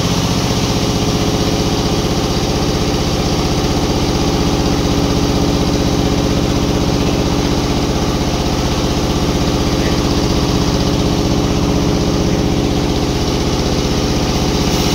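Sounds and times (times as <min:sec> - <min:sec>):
sawmill engine idling: 0:00.0 - 0:14.9.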